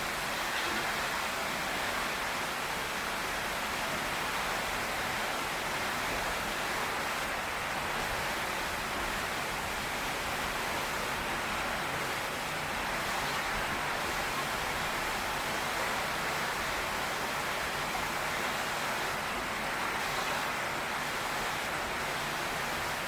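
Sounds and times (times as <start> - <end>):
heavy rain on a tin roof: 0.0 - 23.0.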